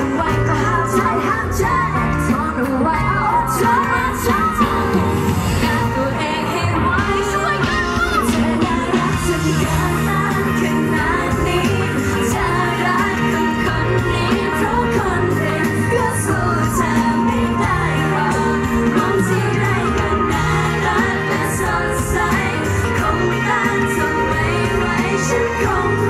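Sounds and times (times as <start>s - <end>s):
amplified pop backing music: 0.0s - 26.0s
woman singing into microphone: 0.0s - 26.0s.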